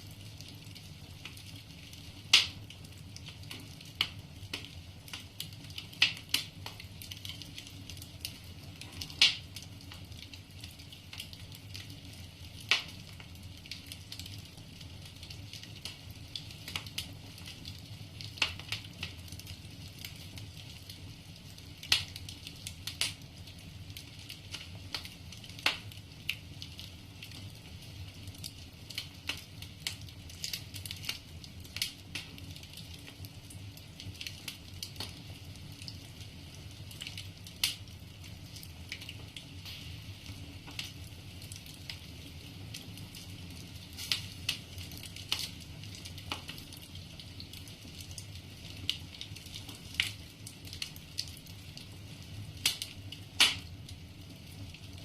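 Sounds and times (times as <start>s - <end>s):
flames rumbling and hissing: 0.0s - 55.0s
logs crackling and popping: 0.0s - 55.0s.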